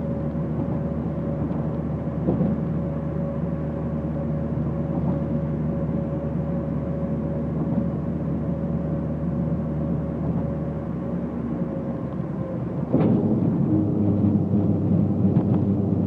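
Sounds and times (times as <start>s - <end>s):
car engine and exhaust droning: 0.0s - 16.0s.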